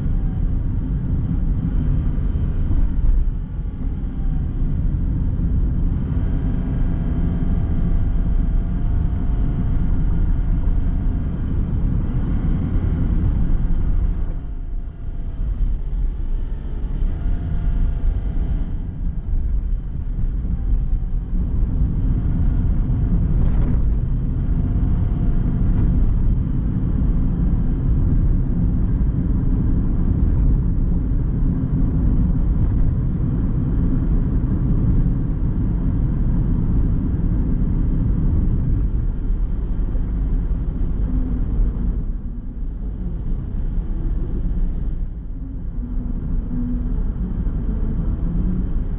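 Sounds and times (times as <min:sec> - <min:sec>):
car tyres and engine rumble: 0:00.0 - 0:48.9.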